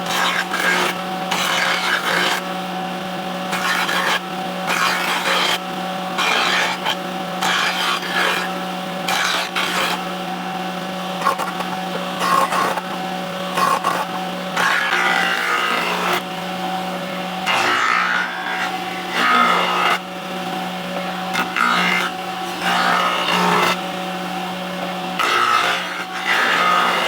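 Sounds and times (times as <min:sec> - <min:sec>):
power tool rasping against wood: 0:00.0 - 0:27.0.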